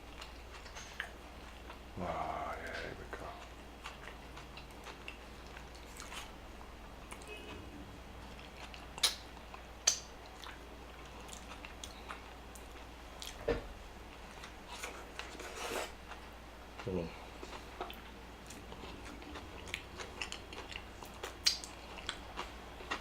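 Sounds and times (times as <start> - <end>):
person chewing food: 0.0 - 13.5, 14.1 - 23.0.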